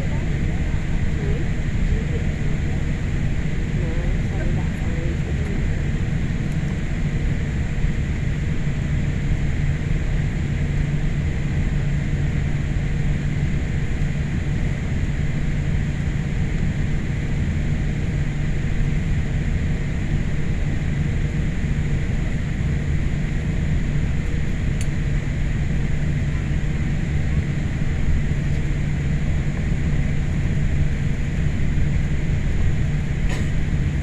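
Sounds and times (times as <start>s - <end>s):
faint constant hum: 0.0s - 34.0s
jet engine and airflow rumble: 0.0s - 34.0s.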